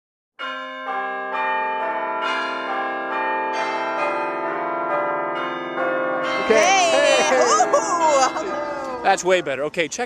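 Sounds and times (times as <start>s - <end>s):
bells ringing: 0.4s - 9.9s.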